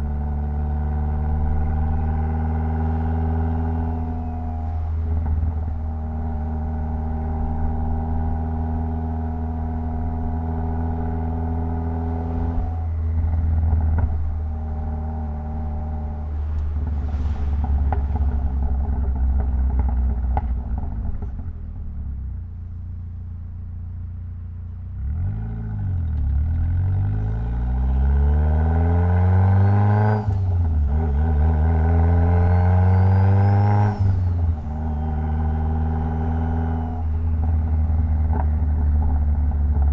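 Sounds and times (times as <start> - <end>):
car engine accelerating: 0.0 - 23.0, 24.9 - 39.9.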